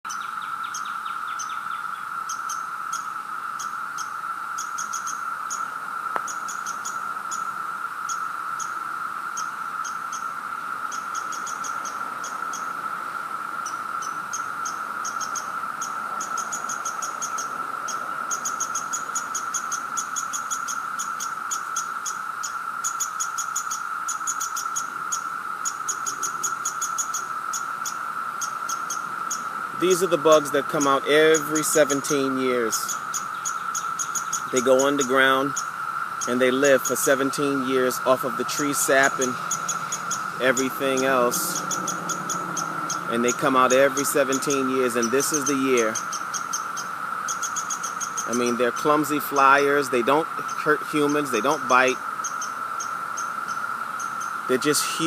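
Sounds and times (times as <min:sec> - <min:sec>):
cicadas droning: 0:00.0 - 0:55.0
rapid high-pitched chirps: 0:00.1 - 0:12.8, 0:13.6 - 0:55.0.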